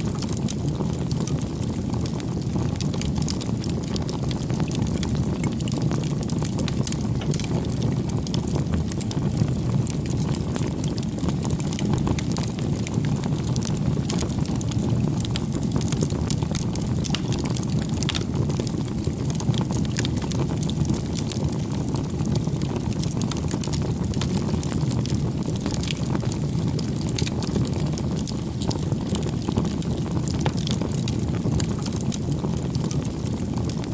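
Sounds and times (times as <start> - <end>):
fire crackling and popping: 0.0 - 33.9
fire flames rushing: 0.0 - 33.9.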